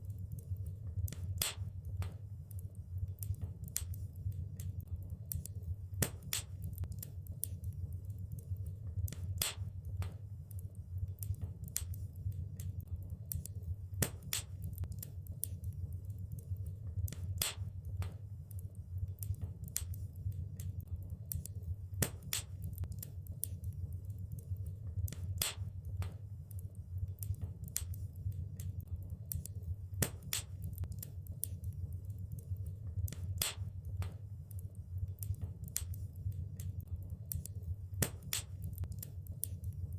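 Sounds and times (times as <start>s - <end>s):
low rumble of fire: 0.0s - 39.9s
wood fire crackling and popping: 0.0s - 39.9s.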